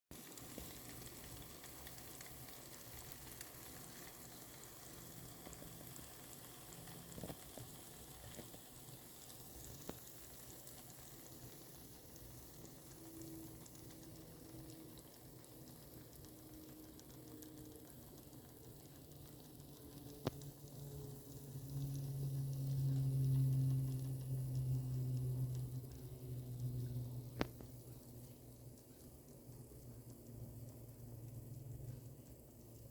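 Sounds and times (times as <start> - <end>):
air fryer humming: 0.1 - 32.9
chicken sizzling in air fryer: 0.1 - 32.9.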